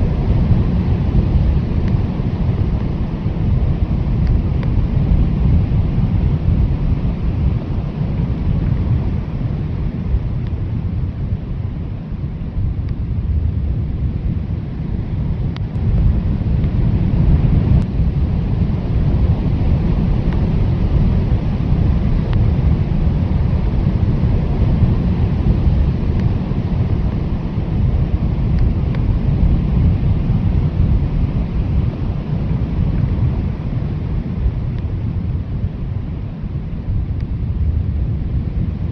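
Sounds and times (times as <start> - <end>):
strong blizzard wind: 0.0 - 38.9.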